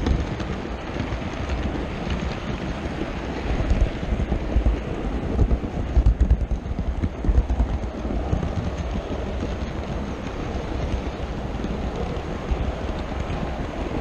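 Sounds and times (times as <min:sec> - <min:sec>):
model train wheels rumbling on rail: 0:00.0 - 0:14.0.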